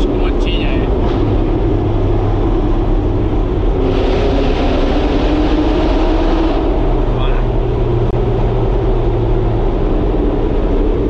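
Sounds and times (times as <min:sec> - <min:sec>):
car engine drone from cabin: 0:00.0 - 0:11.0.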